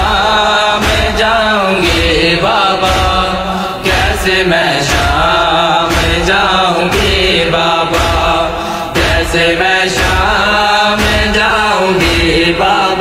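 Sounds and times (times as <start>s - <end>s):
men chanting a lament: 0.0s - 13.0s
chest-beating slaps: 0.8s - 12.3s.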